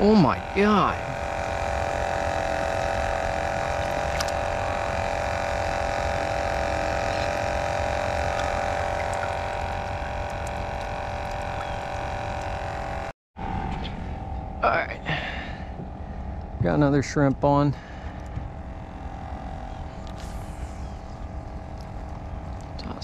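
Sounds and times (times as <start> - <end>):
aerator humming: 0.0 - 23.0.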